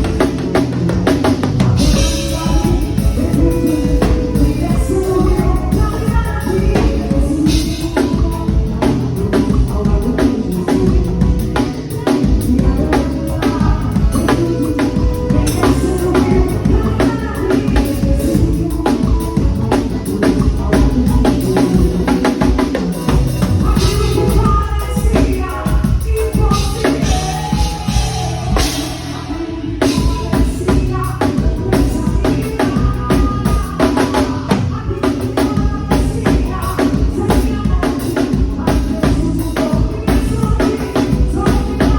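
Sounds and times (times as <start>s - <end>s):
live band playing: 0.0s - 41.9s.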